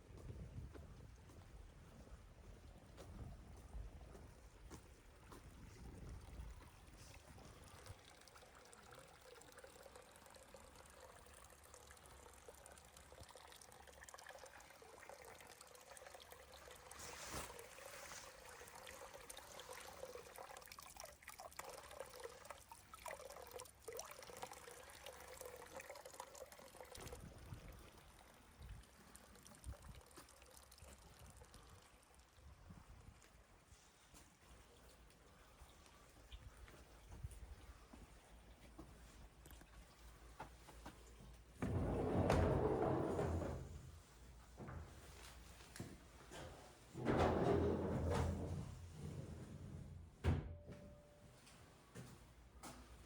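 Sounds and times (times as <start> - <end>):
faint trickling water: 0.0 - 50.2.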